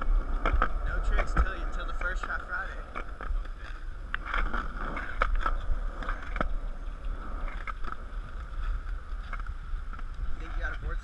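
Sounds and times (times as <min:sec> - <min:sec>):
skateboard wheels rolling on concrete: 0:00.0 - 0:11.0
wheels clicking over slab joints: 0:00.0 - 0:11.0.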